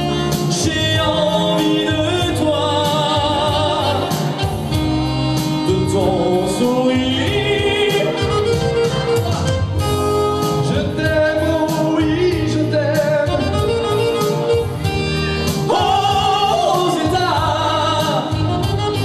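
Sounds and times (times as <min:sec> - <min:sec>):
man singing: 0:00.0 - 0:04.6, 0:05.4 - 0:09.4, 0:10.3 - 0:14.7, 0:15.4 - 0:19.0
electronic keyboard accompaniment: 0:00.0 - 0:19.0.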